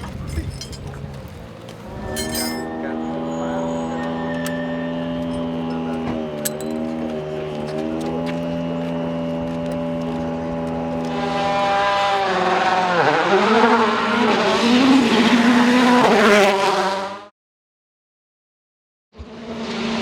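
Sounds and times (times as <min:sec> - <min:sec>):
rally car engine revving: 0:00.0 - 0:17.3, 0:19.2 - 0:20.0.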